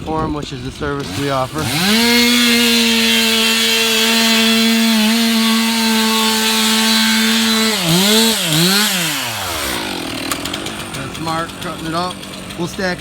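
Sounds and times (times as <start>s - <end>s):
chainsaw cutting wood: 0.7s - 13.0s.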